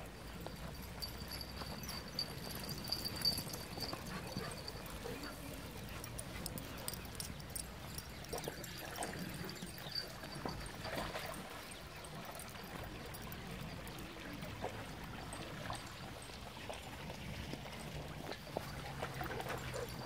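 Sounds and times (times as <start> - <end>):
dogs splashing through stream: 0.0 - 20.0.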